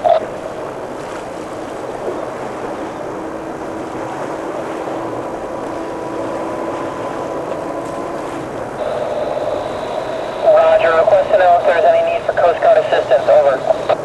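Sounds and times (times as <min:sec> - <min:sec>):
faint motor drone: 0:00.0 - 0:14.0
surf washing against rocks: 0:00.0 - 0:14.0
wind rushing: 0:00.0 - 0:14.0.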